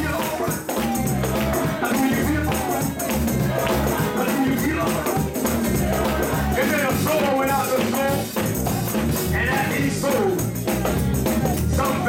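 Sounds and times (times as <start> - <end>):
person singing: 0.0 - 8.3, 9.3 - 12.0
church praise music: 0.0 - 12.0
tambourine shaking: 0.0 - 12.0.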